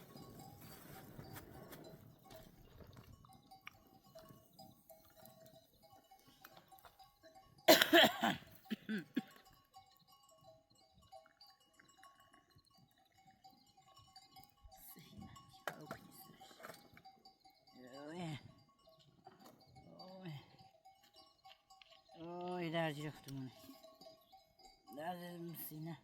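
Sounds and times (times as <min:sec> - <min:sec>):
livestock bells ringing: 0:00.0 - 0:26.0.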